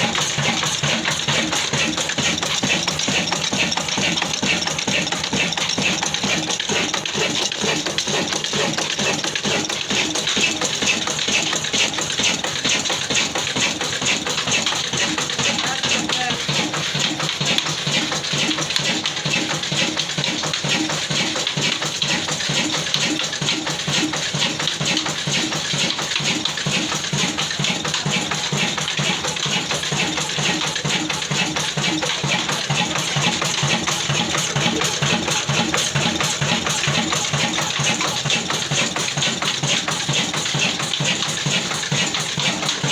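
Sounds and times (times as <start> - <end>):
stationary diesel engine running: 0.0 - 42.9.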